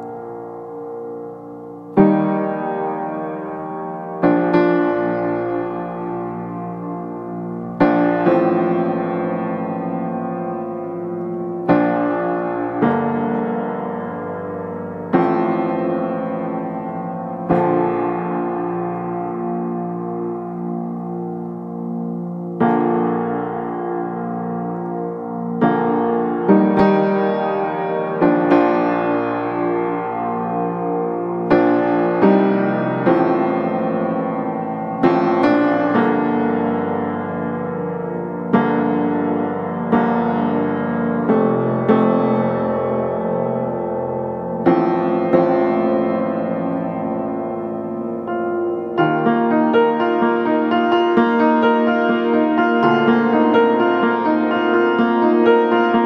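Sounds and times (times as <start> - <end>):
slow piano chords: 0.0 - 56.0.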